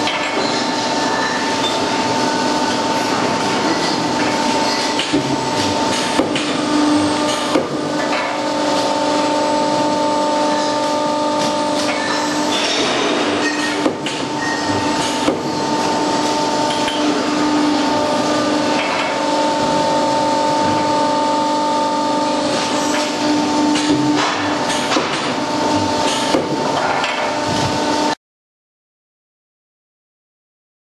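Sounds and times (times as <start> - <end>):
factory machinery humming: 0.0 - 28.2.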